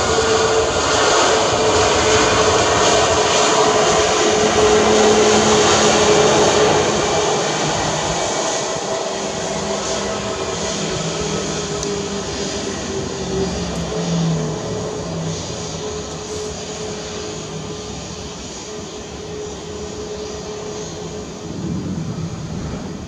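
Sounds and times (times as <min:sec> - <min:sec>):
jet engine roar and whine: 0:00.0 - 0:23.0.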